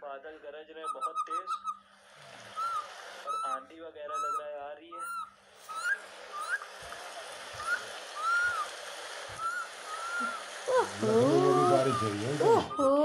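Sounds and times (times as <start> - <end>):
faint steady hiss: 0.0 - 12.7
parakeet whistling: 0.8 - 13.0.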